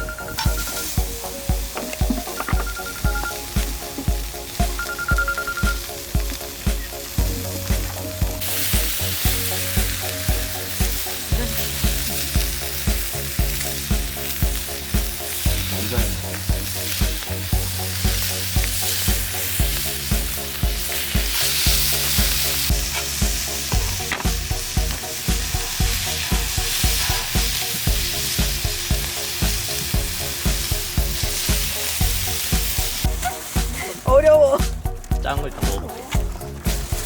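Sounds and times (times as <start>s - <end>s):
background music with low thumps: 0.0s - 37.0s
beef sizzling on a griddle: 0.1s - 34.1s, 36.2s - 37.0s.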